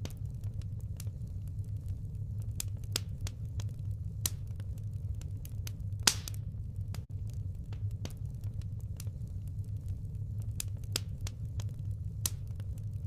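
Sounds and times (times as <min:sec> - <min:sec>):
firewood crackling and popping: 0:00.0 - 0:13.0
steady low rumble: 0:00.0 - 0:13.0.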